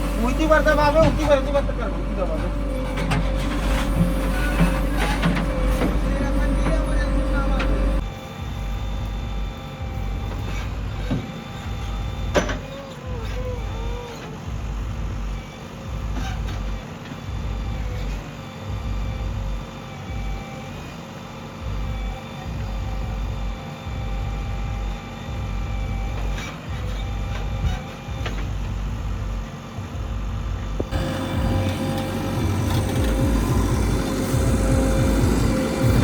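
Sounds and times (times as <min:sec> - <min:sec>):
heavy diesel engine rumble: 0:00.0 - 0:20.4, 0:24.3 - 0:36.0.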